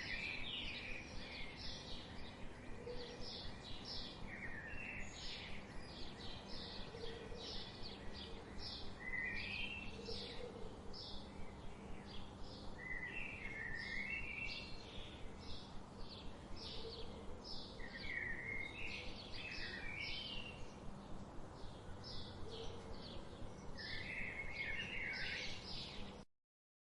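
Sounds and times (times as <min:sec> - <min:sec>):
songbirds chirping: 0:00.0 - 0:26.2.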